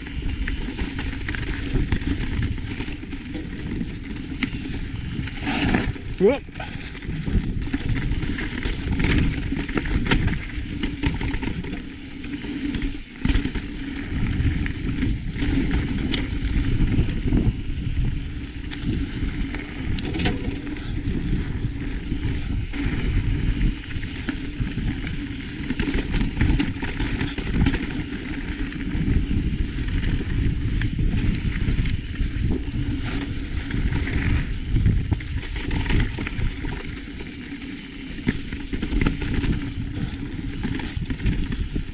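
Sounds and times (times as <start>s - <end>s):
tyres rolling over dirt and rock: 0.0s - 17.5s, 18.5s - 41.9s
bike rattling and knocking: 0.0s - 41.9s
wind rushing over microphone: 0.0s - 41.9s.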